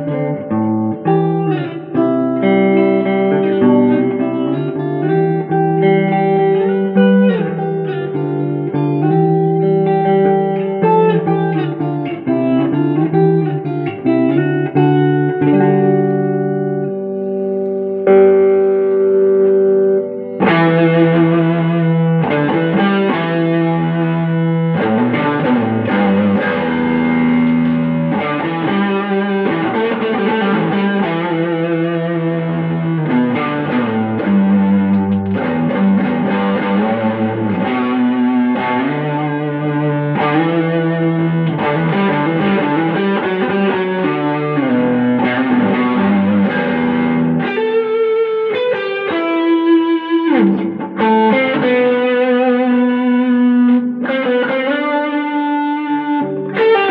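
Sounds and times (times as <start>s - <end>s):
electric guitar ringing notes: 0.0s - 56.9s.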